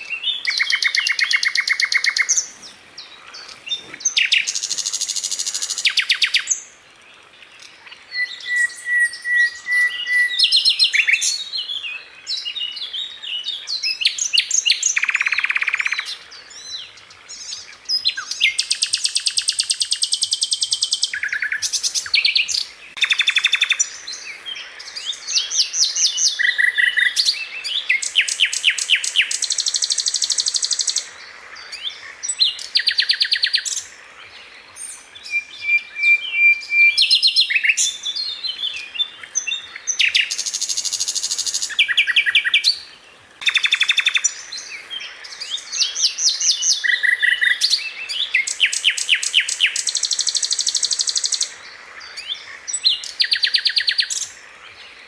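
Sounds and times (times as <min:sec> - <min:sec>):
bird singing fast trills: 0:00.0 - 0:06.7, 0:08.1 - 0:16.6, 0:17.4 - 0:31.1, 0:35.2 - 0:54.4.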